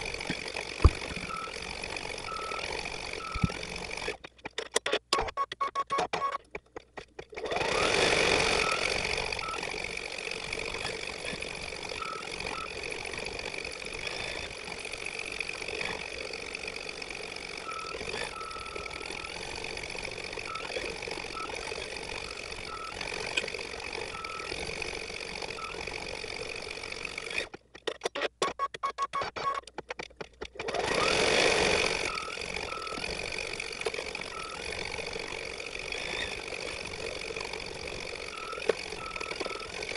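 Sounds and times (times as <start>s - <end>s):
embroidery machine whirring: 0.0s - 4.8s, 6.1s - 39.9s.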